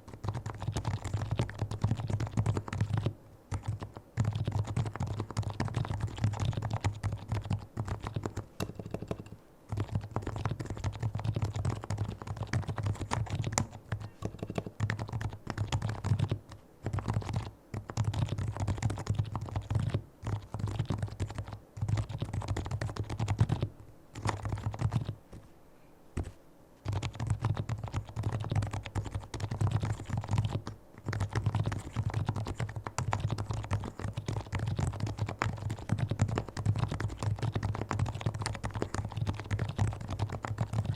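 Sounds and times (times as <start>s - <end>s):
keyboard typing: 0.0s - 25.5s, 26.2s - 40.9s.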